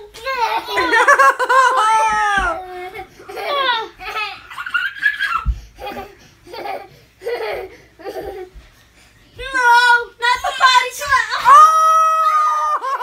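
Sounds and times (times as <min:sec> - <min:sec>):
children laughing: 0:00.1 - 0:08.6, 0:10.4 - 0:13.0.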